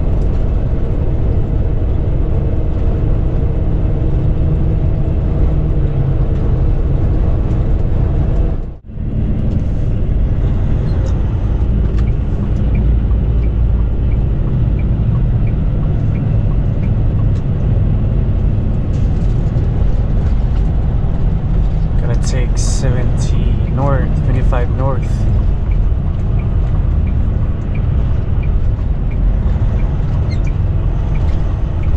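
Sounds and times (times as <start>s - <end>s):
truck engine and road noise: 0.0s - 31.9s.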